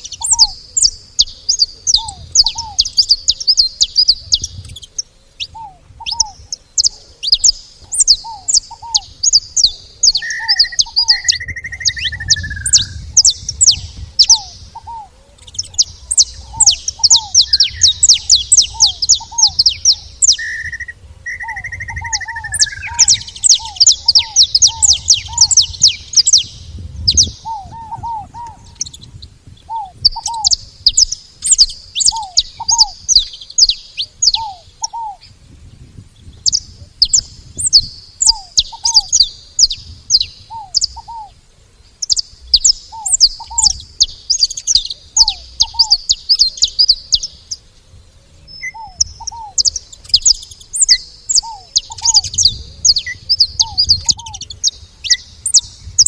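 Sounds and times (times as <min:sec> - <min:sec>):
finches chattering: 0:00.0 - 0:35.3, 0:36.3 - 0:41.4, 0:42.0 - 0:47.6, 0:48.5 - 0:56.0
low falling bird calls: 0:00.0 - 0:56.0.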